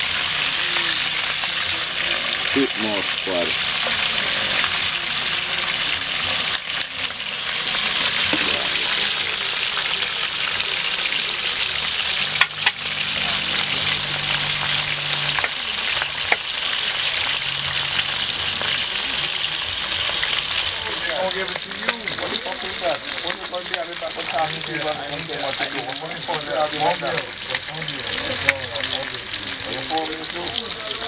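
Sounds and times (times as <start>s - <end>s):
fish frying in sizzling oil: 0.0s - 31.0s.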